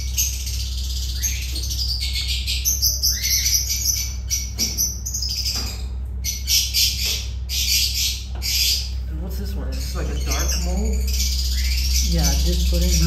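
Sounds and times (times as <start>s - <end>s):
lovebirds chirping and chattering: 0.0s - 13.0s.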